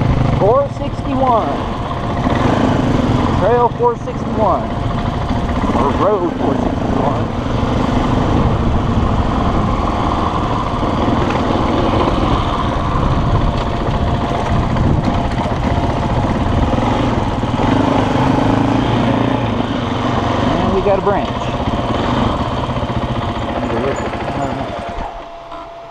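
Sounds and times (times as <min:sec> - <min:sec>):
small vehicle engine running: 0:00.0 - 0:25.9.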